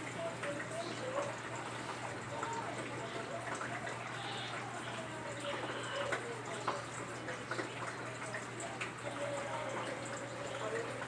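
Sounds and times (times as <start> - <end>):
drain pump hum: 0.0 - 11.0.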